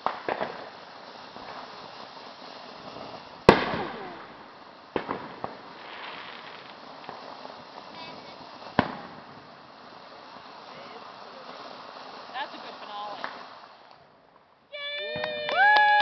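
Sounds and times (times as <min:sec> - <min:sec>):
firework bang: 0:00.0 - 0:13.7
firework pops: 0:00.0 - 0:16.0.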